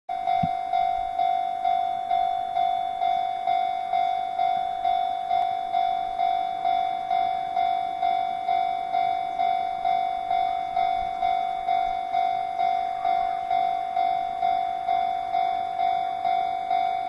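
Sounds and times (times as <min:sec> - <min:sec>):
level crossing bell clanging: 0:00.1 - 0:17.0.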